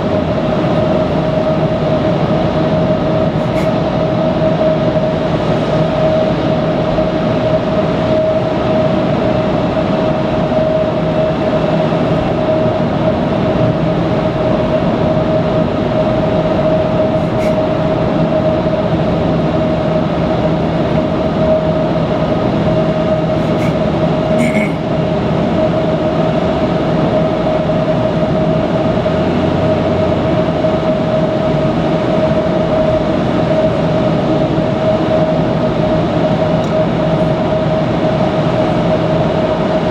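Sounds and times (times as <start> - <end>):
mid-pitched hum: 0.0 - 39.9.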